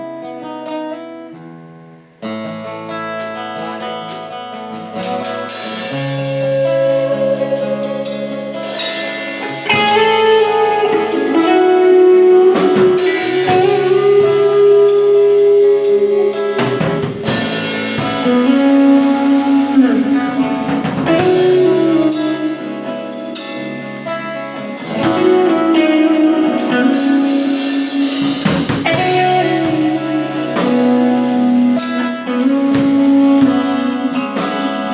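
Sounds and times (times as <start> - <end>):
drum backing: 2.5 - 34.9
electric guitar lead notes: 2.7 - 34.9.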